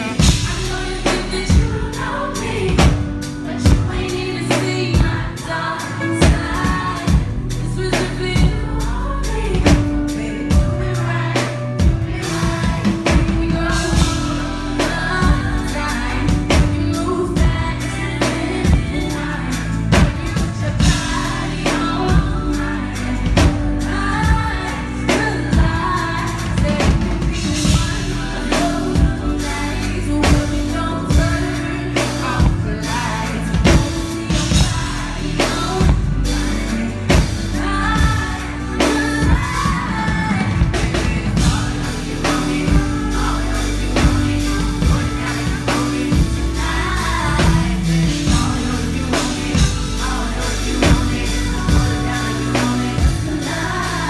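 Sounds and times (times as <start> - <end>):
band with drums bass keyboard: 0.0 - 54.0
woman singing: 0.0 - 54.0.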